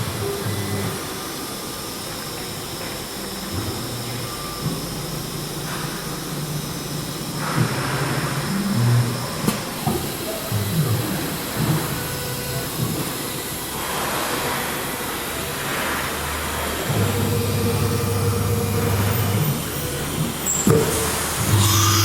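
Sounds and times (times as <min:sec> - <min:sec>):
high machine whine: 0:00.0 - 0:22.0
router motors humming: 0:00.0 - 0:22.0.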